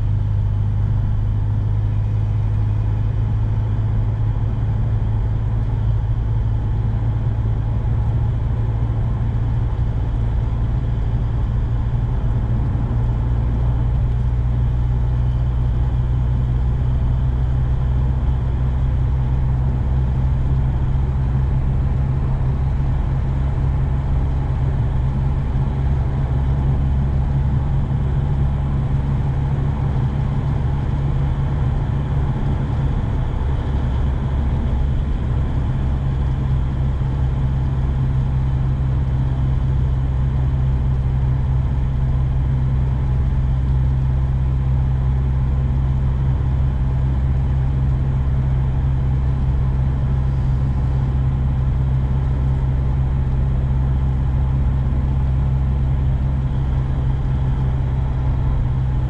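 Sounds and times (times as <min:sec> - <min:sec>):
car engine drone: 0:00.0 - 0:59.0
road noise inside car: 0:00.0 - 0:59.0.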